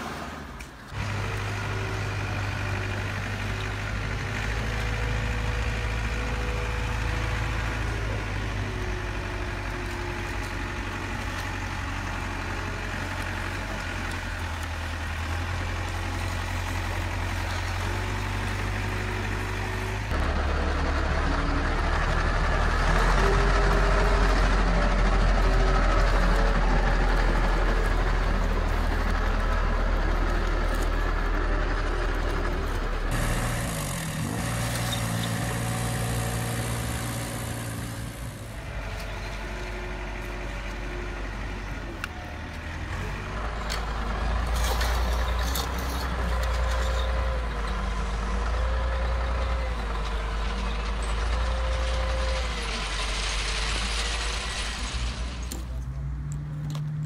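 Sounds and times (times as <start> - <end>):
diesel engine idling: 0.0 - 56.8.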